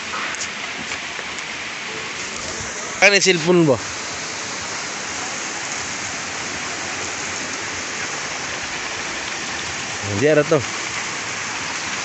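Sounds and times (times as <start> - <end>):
water splashing into a pool: 0.0 - 12.0.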